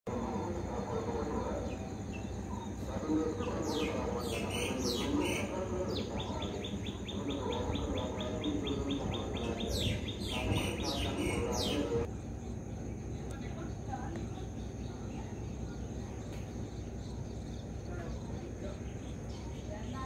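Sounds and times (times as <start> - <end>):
birds chirping: 0.1 - 20.0
low background murmur: 0.1 - 20.0.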